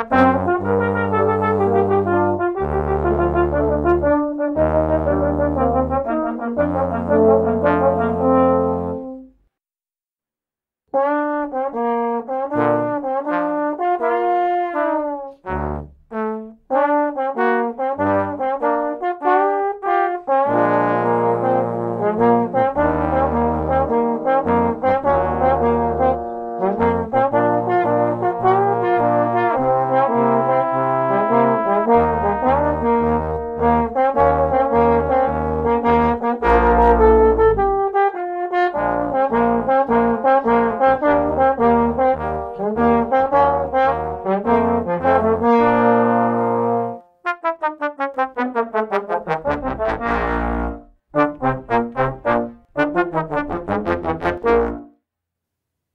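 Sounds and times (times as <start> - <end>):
trombone quartet playing ballad: 0.0 - 9.2, 11.0 - 54.9.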